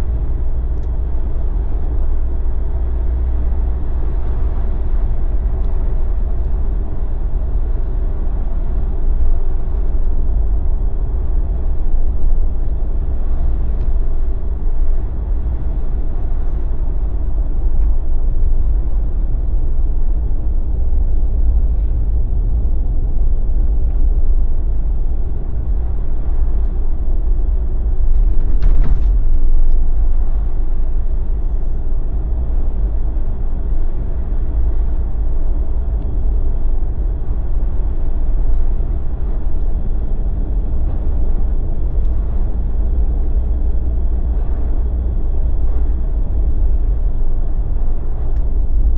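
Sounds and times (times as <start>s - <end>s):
vehicle engine and road rumble: 0.0s - 48.9s.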